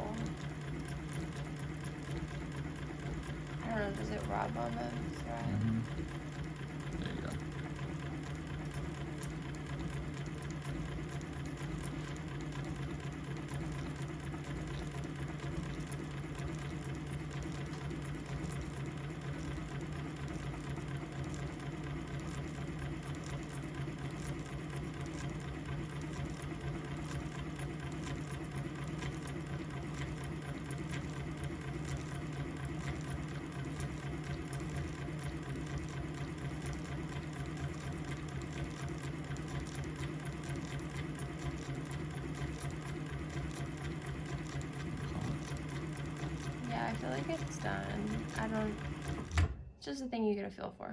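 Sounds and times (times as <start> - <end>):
sewing machine running: 0.0 - 49.6.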